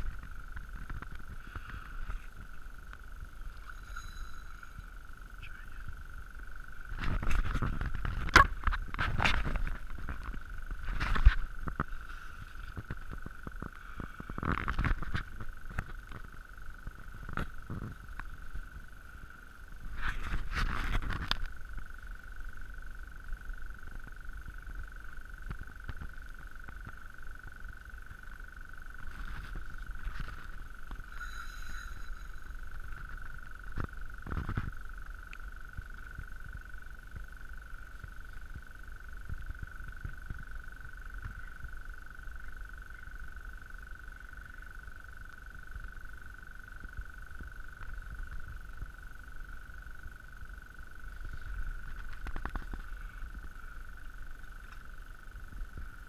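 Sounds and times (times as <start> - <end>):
steady mid-pitched hiss: 0.0 - 56.0.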